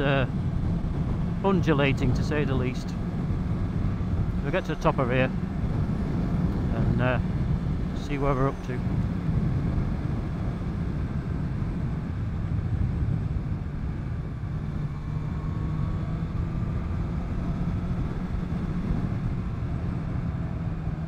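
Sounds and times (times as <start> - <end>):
motorcycle engine cruising: 0.0 - 21.0
wind noise: 0.0 - 21.0.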